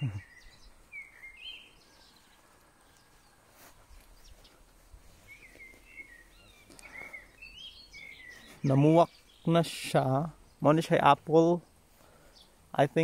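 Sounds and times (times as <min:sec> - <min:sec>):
songbird chirps and warbles: 0:00.0 - 0:13.0.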